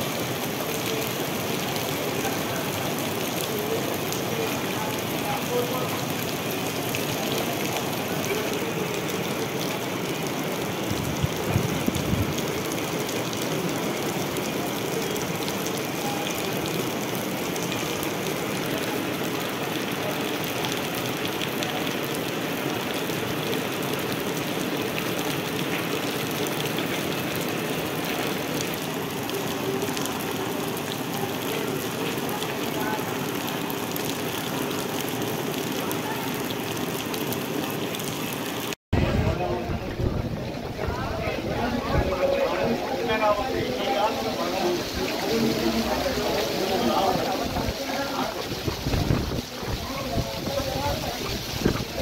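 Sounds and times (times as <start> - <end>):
heavy rain on puddled ground: 0.0 - 52.0.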